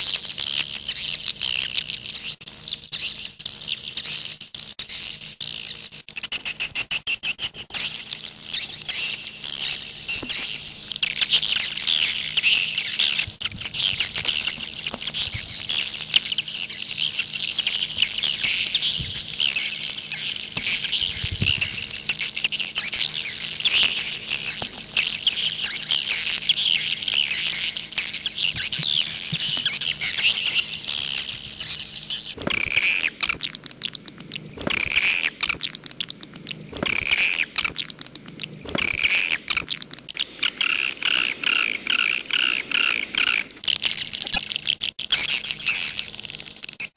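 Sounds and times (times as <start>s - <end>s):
twittering bird chirps: 0.0s - 46.8s.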